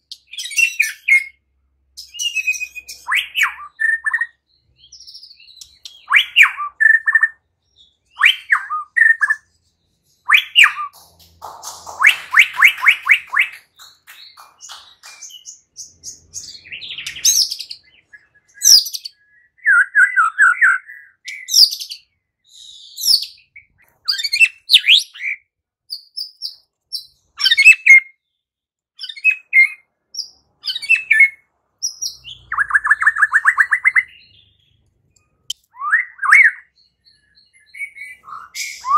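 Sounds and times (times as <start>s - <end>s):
songbird whistles and trills: 0.0s - 1.4s, 2.0s - 28.3s, 29.0s - 38.9s.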